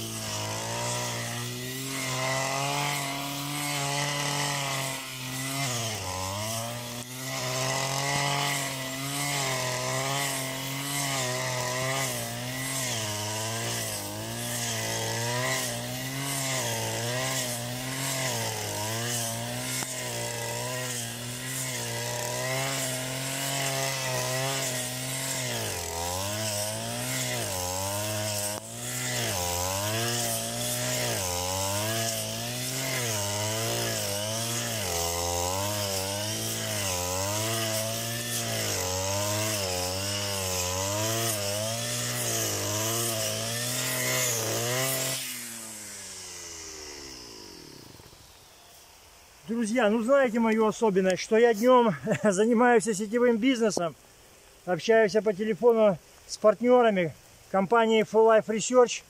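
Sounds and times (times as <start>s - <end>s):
brush cutter cutting grass: 0.0s - 59.0s.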